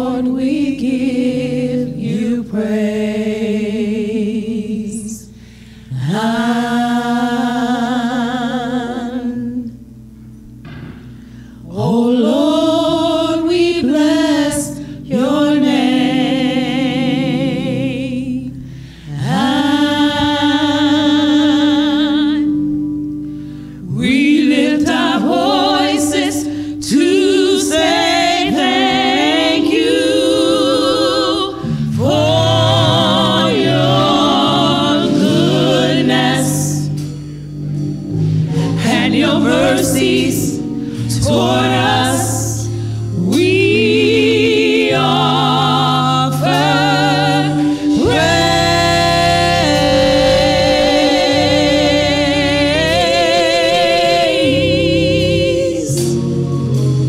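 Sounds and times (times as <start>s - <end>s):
women singing gospel: 0.0s - 9.8s, 10.7s - 57.0s.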